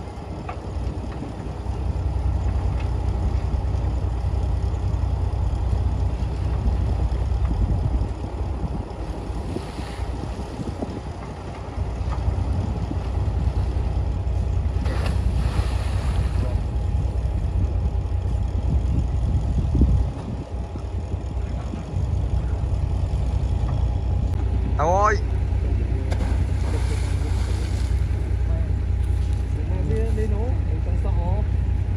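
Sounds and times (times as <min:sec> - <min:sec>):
heavy machinery diesel engine rumbling: 0:00.0 - 0:31.9.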